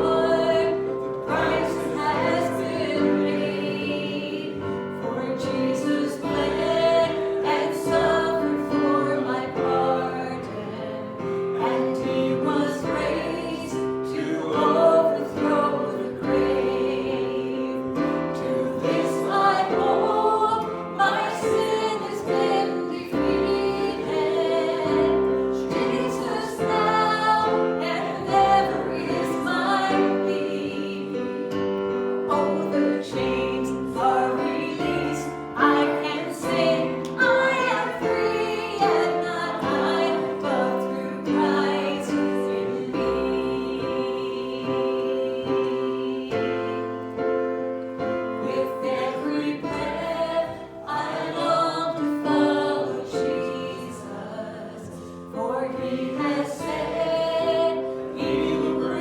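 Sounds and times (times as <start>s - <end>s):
choir singing a hymn: 0.0s - 59.0s
keyboard accompaniment: 0.0s - 59.0s.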